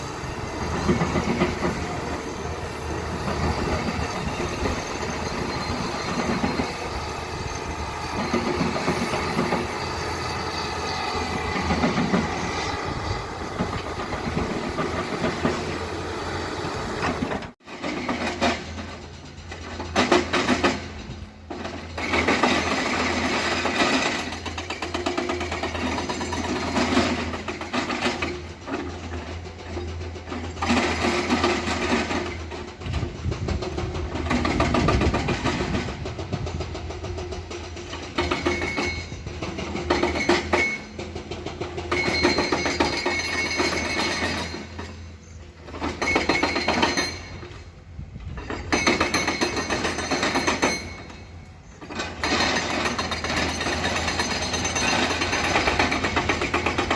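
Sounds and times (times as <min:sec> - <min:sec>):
diesel engines running: 0:00.0 - 0:56.9
mechanical rattling and clanking: 0:00.0 - 0:56.9.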